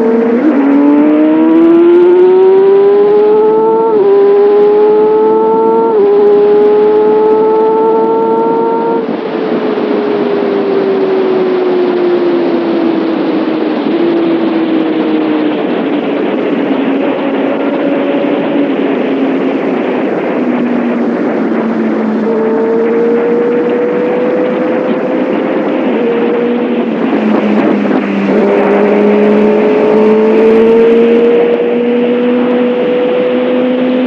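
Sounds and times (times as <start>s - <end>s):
motorcycle engine revving: 0.0s - 34.0s
wind rush: 0.0s - 34.0s.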